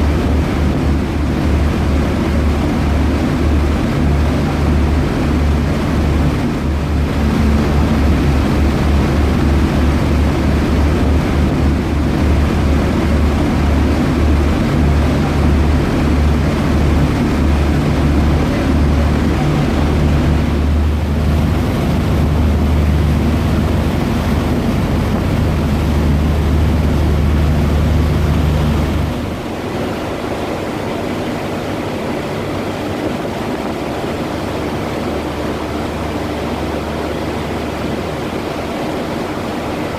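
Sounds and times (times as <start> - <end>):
ferry engines humming: 0.0 - 39.9
rushing water: 0.0 - 39.9
wind: 0.0 - 39.9.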